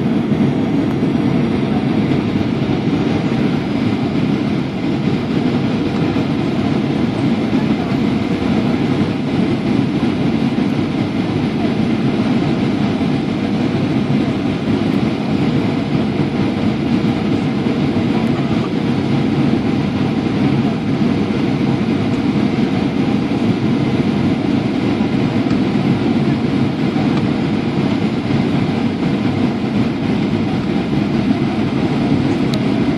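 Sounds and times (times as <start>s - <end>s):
air rushing along fuselage: 0.0s - 32.9s
jet engines droning: 0.0s - 32.9s.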